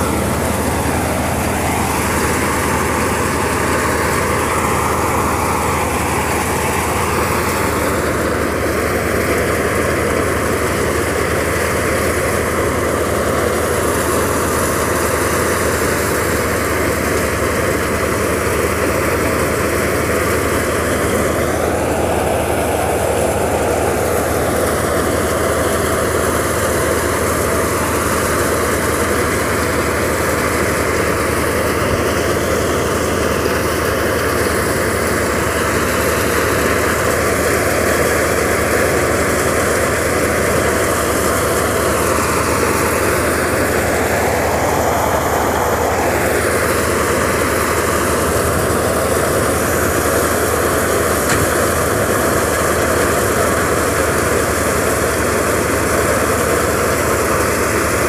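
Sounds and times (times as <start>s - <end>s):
threshing machine running: 0.0s - 58.0s.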